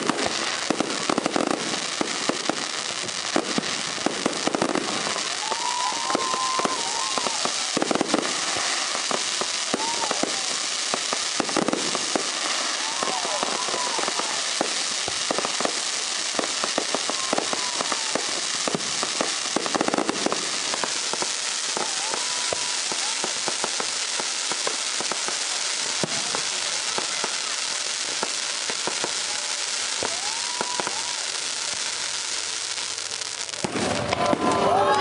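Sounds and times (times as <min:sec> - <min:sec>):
steady hiss: 0:00.0 - 0:34.1
fireworks crackling pops: 0:00.0 - 0:35.0.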